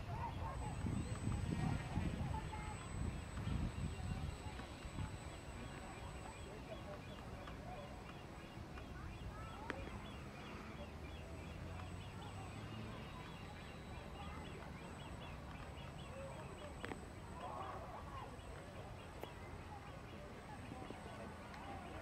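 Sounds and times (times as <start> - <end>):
low hum: 0.0 - 22.0
small birds chirping: 0.0 - 22.0.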